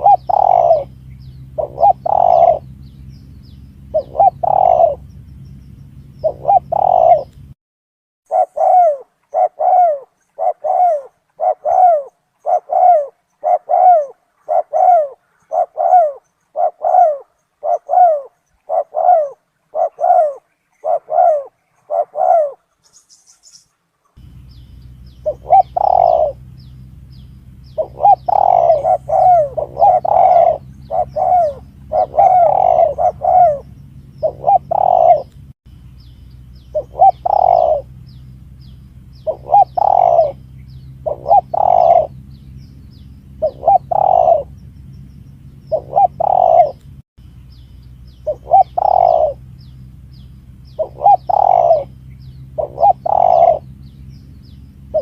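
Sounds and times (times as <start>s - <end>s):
dove cooing: 0.0s - 7.5s, 8.3s - 23.5s, 24.2s - 35.4s, 36.6s - 46.9s, 48.1s - 55.0s
low steady hum: 0.0s - 7.6s, 8.3s - 55.0s.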